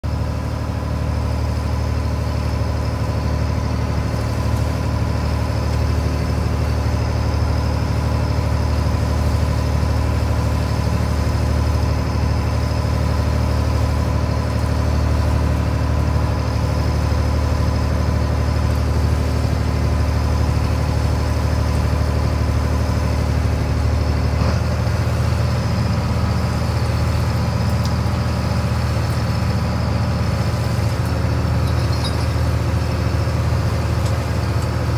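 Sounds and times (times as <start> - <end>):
boat engine humming: 0.0 - 34.9.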